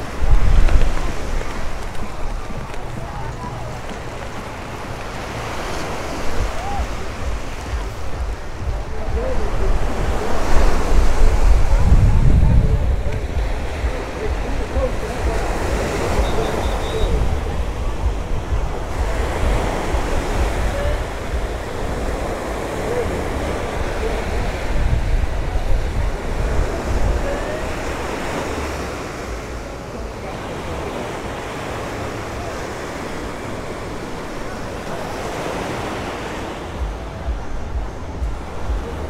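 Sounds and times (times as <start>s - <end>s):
surf washing onto sand: 0.0s - 39.0s
wind rumbling on microphone: 0.0s - 39.0s.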